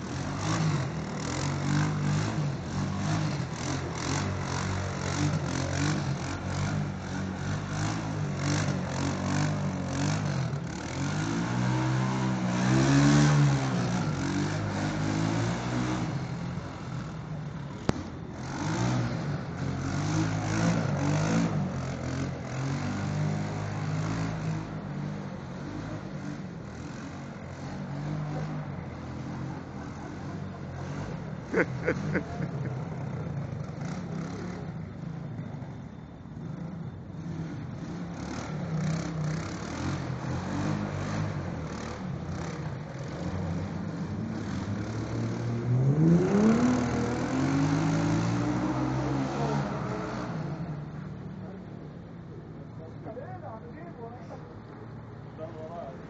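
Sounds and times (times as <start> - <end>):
quad bike engine revving: 0.0 - 35.6, 36.4 - 50.7.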